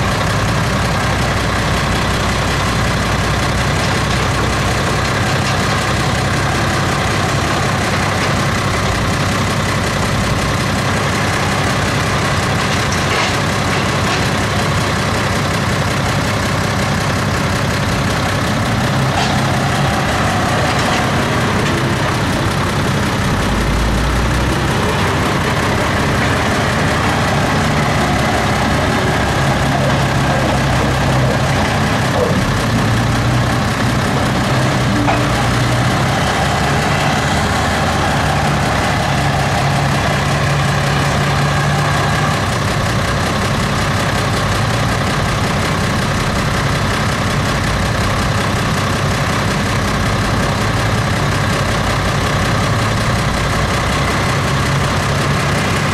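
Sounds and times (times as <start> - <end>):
diesel engine working under load: 0.0 - 55.9.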